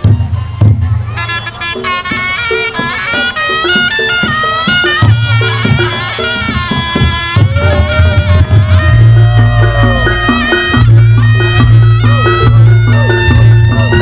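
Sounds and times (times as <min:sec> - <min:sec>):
gamelan percussion: 0:00.0 - 0:14.0
heavy low drum strokes: 0:00.0 - 0:14.0
reed trumpet melody: 0:00.0 - 0:14.0.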